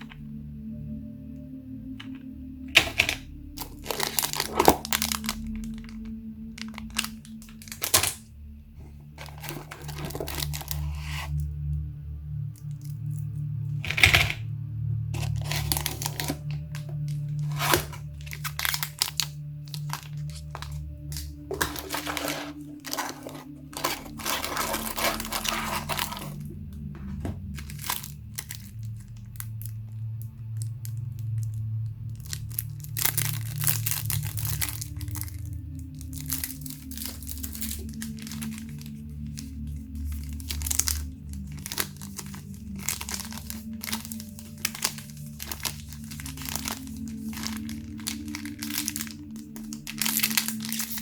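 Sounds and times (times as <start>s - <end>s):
low steady background music: 0.0s - 51.0s
packaging crinkling and tearing: 2.0s - 11.4s, 12.6s - 14.5s, 15.2s - 51.0s.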